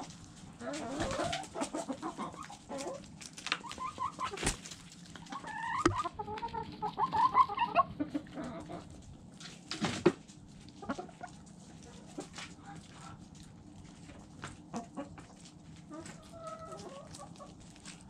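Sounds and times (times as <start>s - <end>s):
beaks pecking at ground: 0.0s - 18.0s
chickens clucking: 0.0s - 18.0s.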